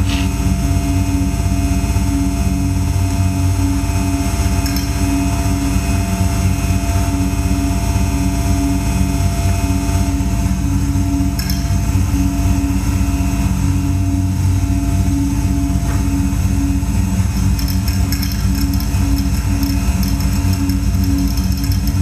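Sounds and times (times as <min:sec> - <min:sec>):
low pulsing rumble: 0:00.0 - 0:22.0.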